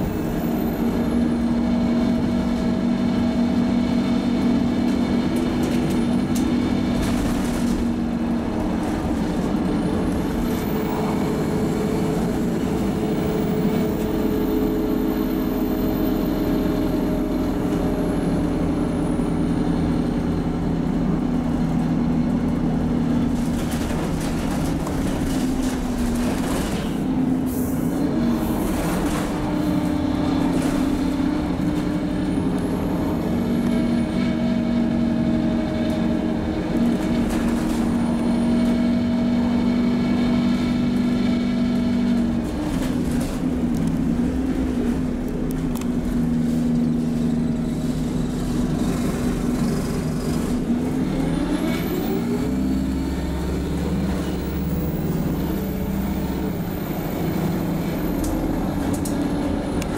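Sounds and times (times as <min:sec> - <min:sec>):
bus diesel engine running: 0:00.0 - 0:59.9
rattling in bus cabin: 0:00.0 - 0:59.9.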